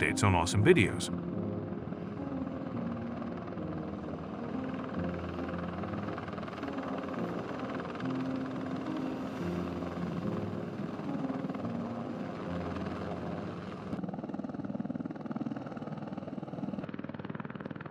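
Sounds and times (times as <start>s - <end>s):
helicopter rotor beat: 0.0s - 17.9s
helicopter turbine whine: 0.0s - 17.9s.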